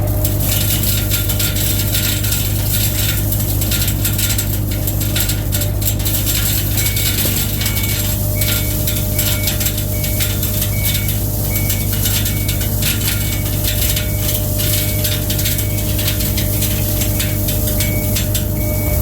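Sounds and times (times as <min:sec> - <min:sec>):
skid steer engine running: 0:00.0 - 0:19.0
metallic clicking and rattling: 0:00.2 - 0:19.0.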